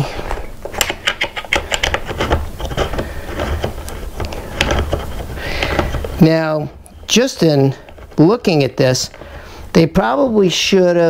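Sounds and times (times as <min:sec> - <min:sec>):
screw turning clicks and scraping: 0:00.3 - 0:09.2.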